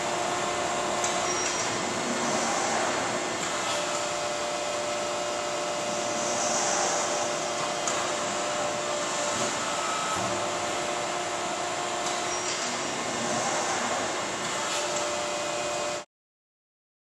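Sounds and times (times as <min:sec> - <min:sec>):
die-cutting press whirring hum: 0:00.0 - 0:16.1.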